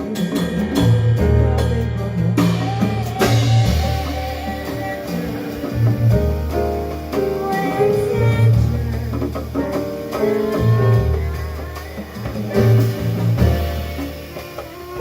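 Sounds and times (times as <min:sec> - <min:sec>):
jazz band playing: 0:00.0 - 0:15.0.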